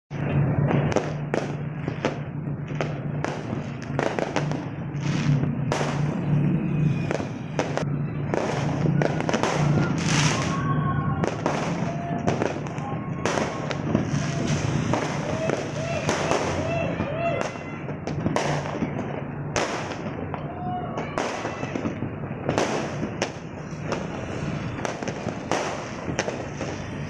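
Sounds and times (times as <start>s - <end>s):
fireworks bangs and crackles: 0.1s - 27.0s.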